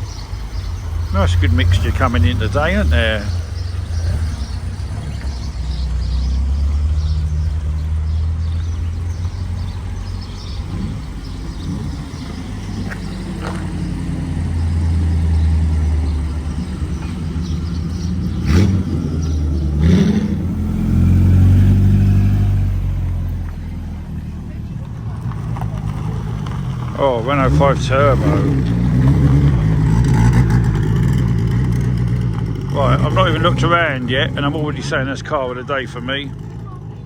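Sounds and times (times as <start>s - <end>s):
car engine revving: 0.0s - 37.0s
cars driving slowly past: 0.0s - 37.0s.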